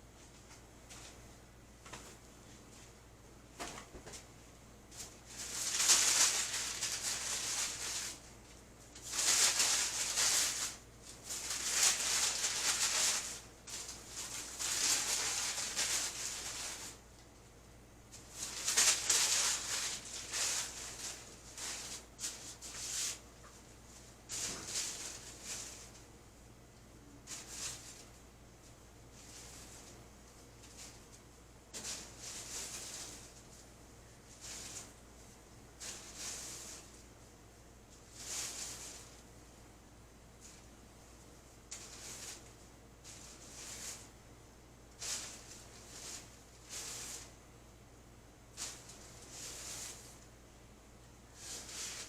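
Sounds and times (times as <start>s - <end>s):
rustling handling noise: 3.6s - 17.4s, 18.0s - 26.1s, 27.1s - 39.3s, 40.3s - 44.2s, 44.8s - 47.4s, 48.4s - 50.3s, 51.2s - 52.0s.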